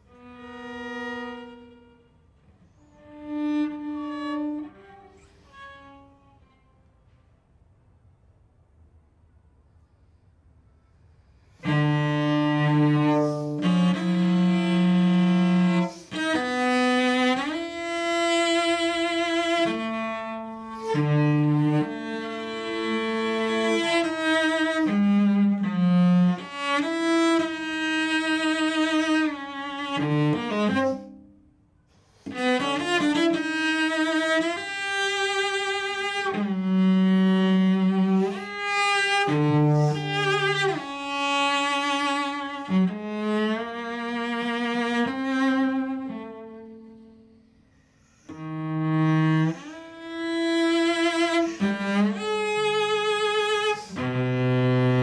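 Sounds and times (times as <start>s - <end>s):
bowed cello: 0.0s - 7.4s, 11.2s - 55.0s.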